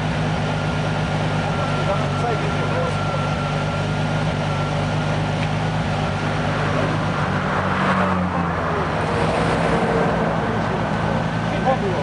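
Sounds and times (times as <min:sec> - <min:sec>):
turbocharged car engine running: 0:00.0 - 0:12.0.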